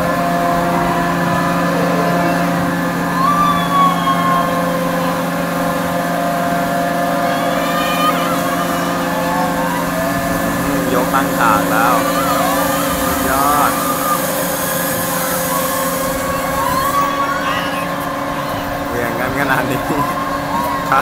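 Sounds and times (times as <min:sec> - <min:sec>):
amusement ride mechanical drone: 0:00.0 - 0:21.0.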